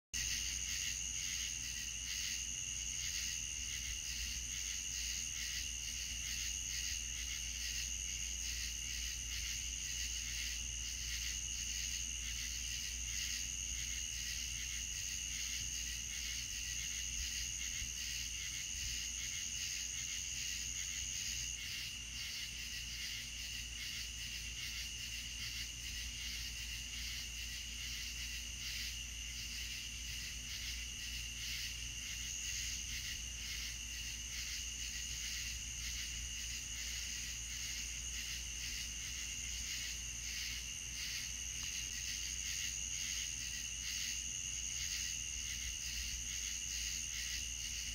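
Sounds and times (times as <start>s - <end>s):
night insects trilling: 0.2s - 47.9s.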